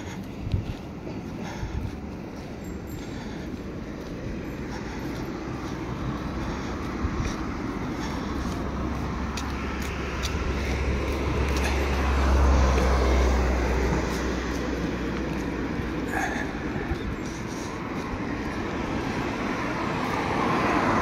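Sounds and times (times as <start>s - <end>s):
passing traffic rumble: 0.0s - 21.0s.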